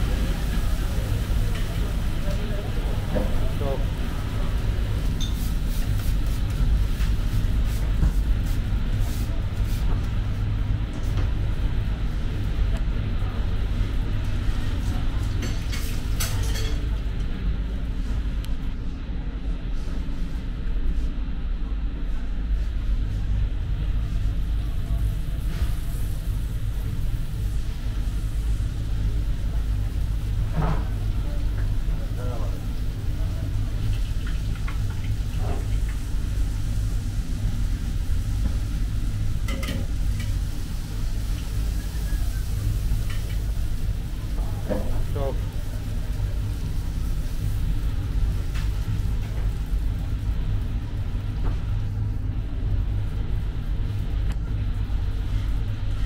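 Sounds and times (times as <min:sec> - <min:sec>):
low rumble background noise: 0:00.0 - 0:56.0.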